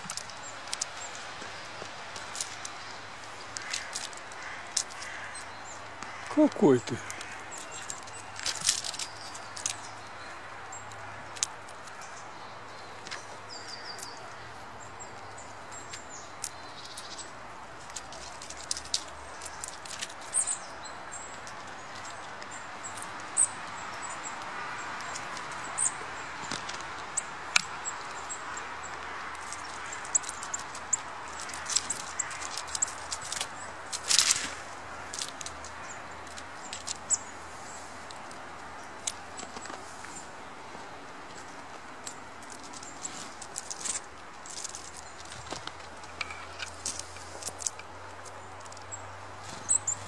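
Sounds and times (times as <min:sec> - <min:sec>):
small clicks and scratches: 0:00.0 - 0:06.3, 0:07.0 - 0:12.1, 0:15.3 - 0:37.2, 0:41.3 - 0:50.0
small birds chirping: 0:00.0 - 0:50.0
steady outdoor hiss: 0:00.0 - 0:50.0.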